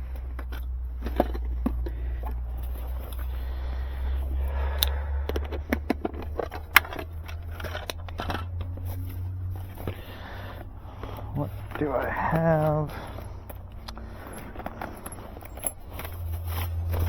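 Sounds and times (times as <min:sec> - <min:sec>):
hand equipment scraping and knocking: 0:00.0 - 0:17.0
steady low hum: 0:00.0 - 0:17.0.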